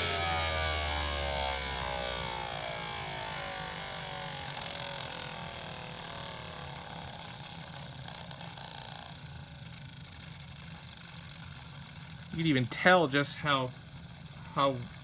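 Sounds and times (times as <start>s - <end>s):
vacuum motor spinning down: 0.0s - 15.0s.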